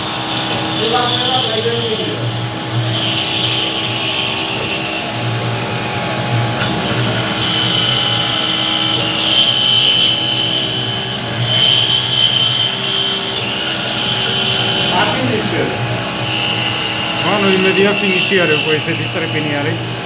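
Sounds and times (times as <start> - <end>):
cutter chattering: 0.0 - 20.0
high cutting tone: 0.0 - 20.0
milling spindle running: 0.0 - 20.0.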